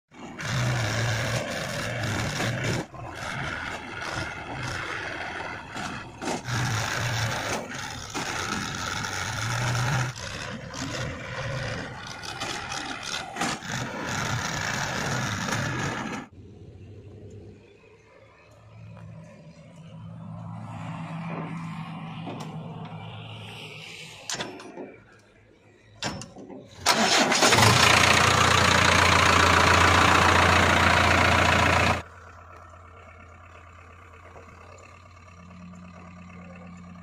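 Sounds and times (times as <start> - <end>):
diesel engines running: 0.1 - 37.0.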